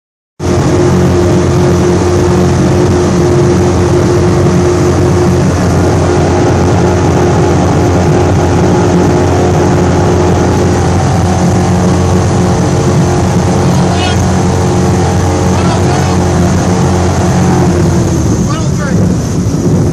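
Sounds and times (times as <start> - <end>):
race boat engine running: 0.4 - 19.9.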